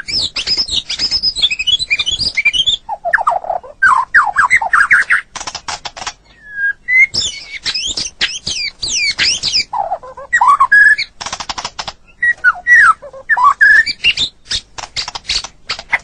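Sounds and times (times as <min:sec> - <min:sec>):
songbird singing varied song: 0:00.0 - 0:05.3, 0:06.2 - 0:11.2, 0:11.9 - 0:16.0.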